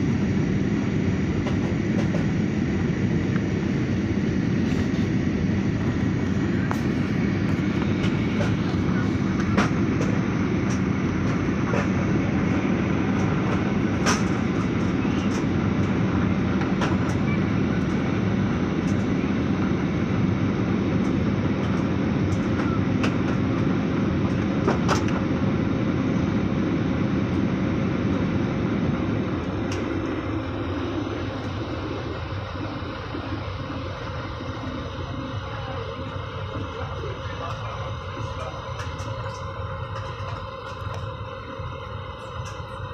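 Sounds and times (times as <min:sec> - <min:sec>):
jet engine cabin rumble: 0:00.0 - 0:42.9.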